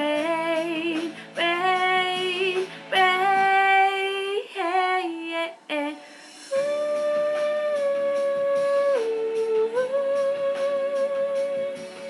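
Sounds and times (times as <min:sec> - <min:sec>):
melody over soft backing music: 0:00.0 - 0:12.0.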